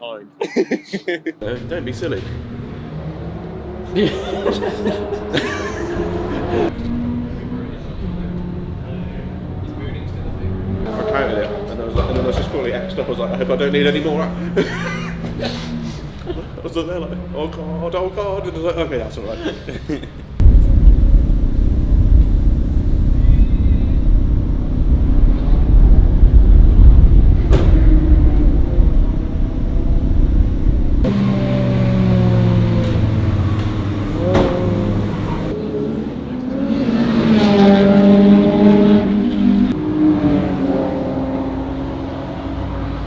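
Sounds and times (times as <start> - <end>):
car engine revving: 1.4 - 18.7, 20.4 - 43.0.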